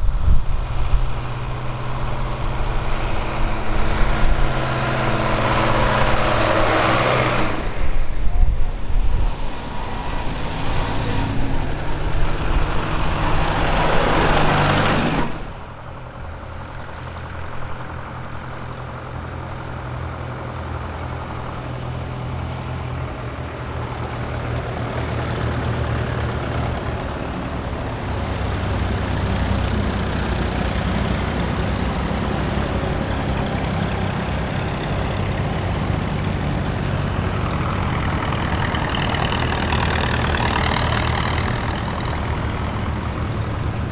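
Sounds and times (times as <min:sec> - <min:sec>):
car engine and tyres passing: 0:00.0 - 0:43.9
tractor engines driving past: 0:00.0 - 0:43.9.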